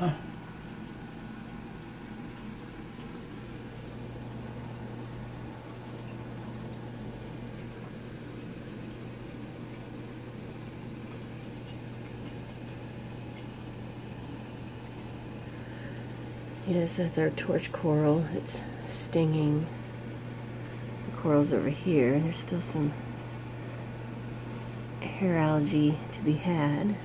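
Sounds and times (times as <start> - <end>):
aquarium pumps humming: 0.0 - 27.0.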